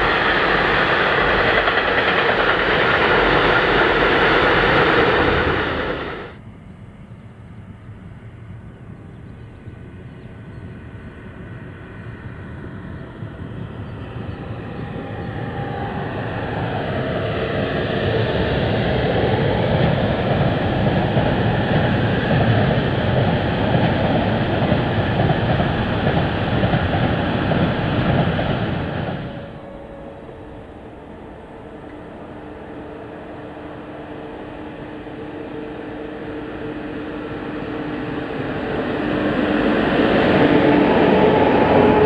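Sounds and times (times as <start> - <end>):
freight train wheels rumbling on rails: 0.0 - 42.0.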